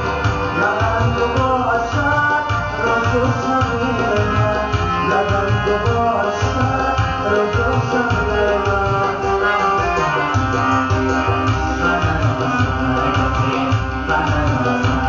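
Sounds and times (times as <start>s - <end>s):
drum rhythm: 0.0s - 15.0s
harmonium melody: 0.0s - 15.0s.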